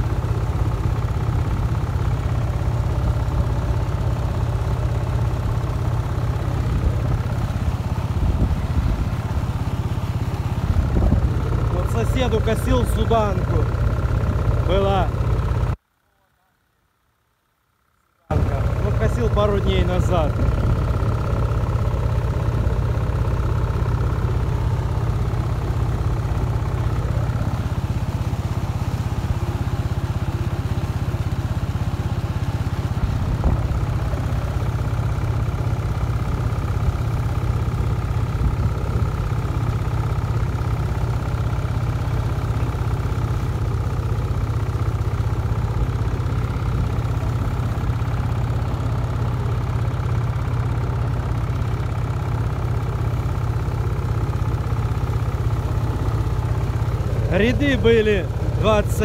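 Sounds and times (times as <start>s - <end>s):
tractor engine at full throttle: 0.0s - 15.8s, 17.8s - 59.0s.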